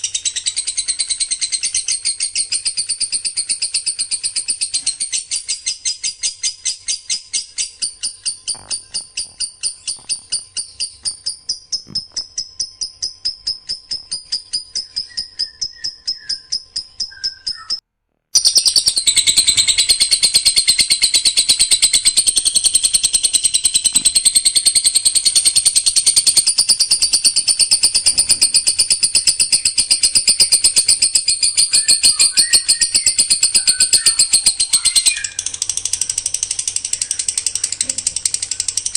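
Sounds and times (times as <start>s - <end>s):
songbird rapid-fire song: 0.0s - 17.8s, 18.4s - 38.9s.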